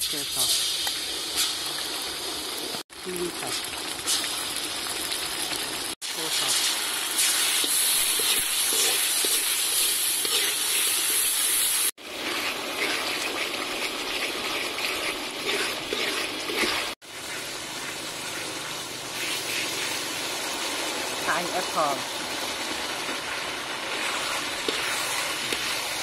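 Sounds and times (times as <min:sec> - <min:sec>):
sauce sizzling in a wok: 0:00.0 - 0:26.0.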